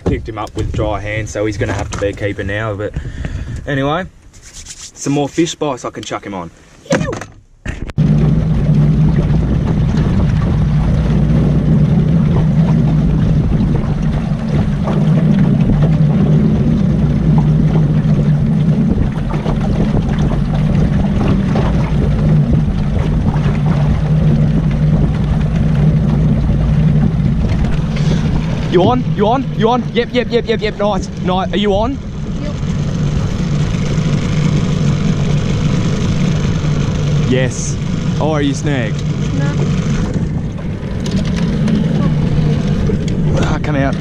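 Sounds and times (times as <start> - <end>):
outboard motor humming: 0.0 - 4.8, 5.8 - 44.0.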